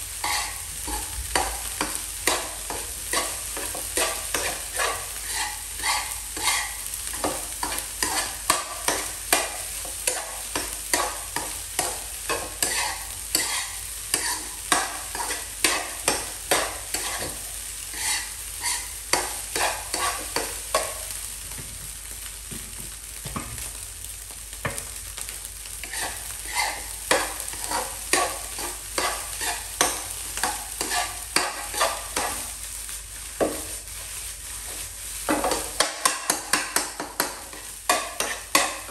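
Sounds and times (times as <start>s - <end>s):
food sizzling: 0.0s - 38.9s
metal spatula scraping a pan: 0.1s - 21.1s, 25.8s - 32.6s, 33.4s - 38.9s.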